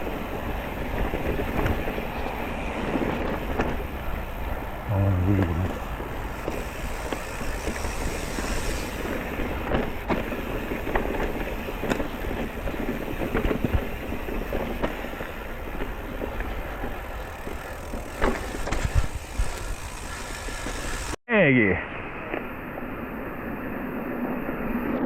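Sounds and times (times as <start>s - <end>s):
bike tyres rolling on trail: 0.0s - 21.2s
wind noise: 0.0s - 21.2s.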